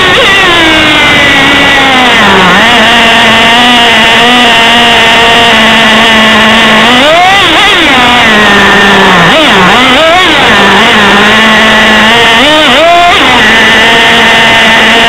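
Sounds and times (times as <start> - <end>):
nitro engine revving: 0.0 - 15.0.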